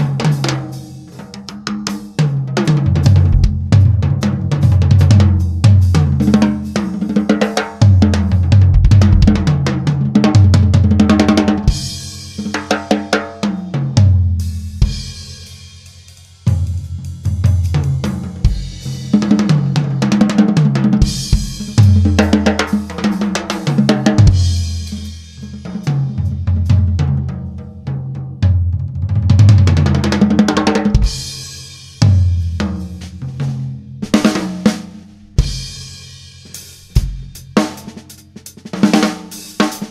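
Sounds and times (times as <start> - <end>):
acoustic drum kit playing: 0.0 - 39.9.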